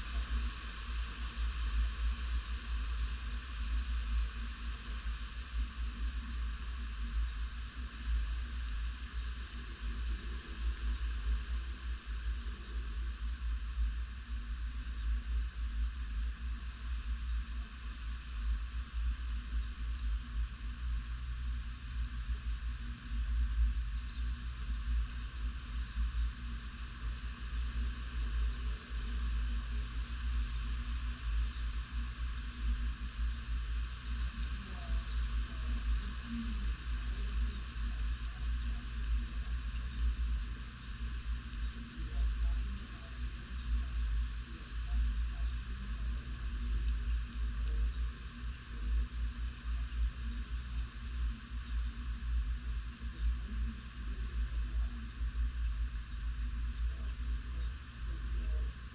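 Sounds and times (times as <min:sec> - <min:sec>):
storm hiss: 0:00.0 - 0:58.9.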